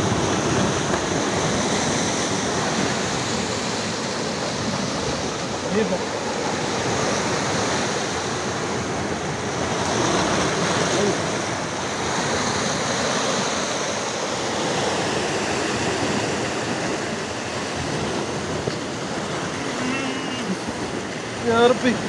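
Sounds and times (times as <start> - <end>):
waves breaking on rocky shore: 0.0 - 22.0.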